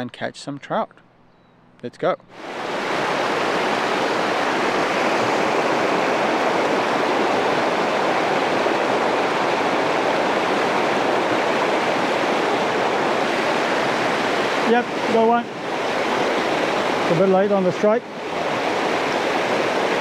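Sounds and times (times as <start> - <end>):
water rushing over rocks: 2.4 - 20.0.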